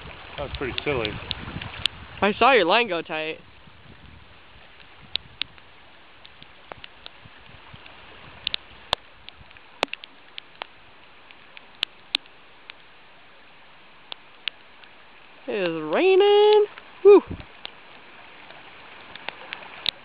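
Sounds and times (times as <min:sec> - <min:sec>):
raindrops ticking near microphone: 0:00.0 - 0:20.0
river flowing: 0:00.0 - 0:20.0.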